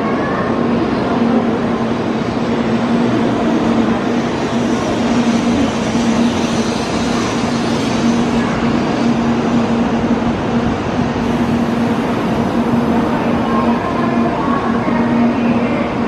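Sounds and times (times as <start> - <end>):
train running noise: 0.0 - 16.0.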